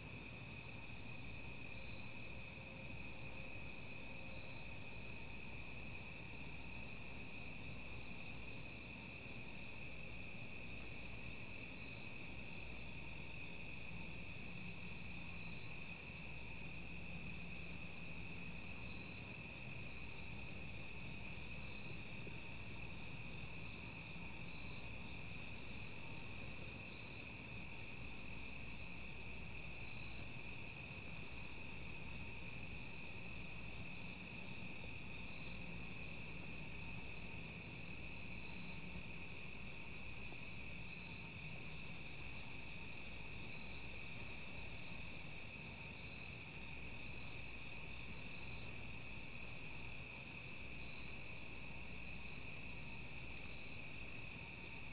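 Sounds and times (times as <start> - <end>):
lower cricket trill: 0.0 - 54.9.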